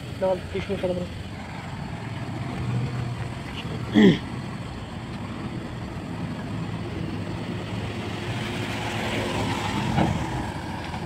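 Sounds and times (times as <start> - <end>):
garbage truck engine running: 0.0 - 11.0.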